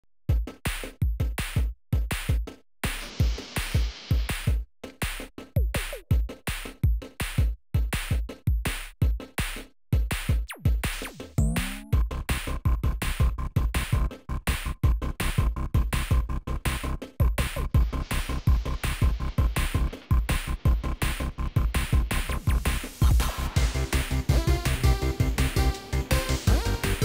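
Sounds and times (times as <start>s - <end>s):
electronic music with drum-machine beat: 0.3s - 27.0s.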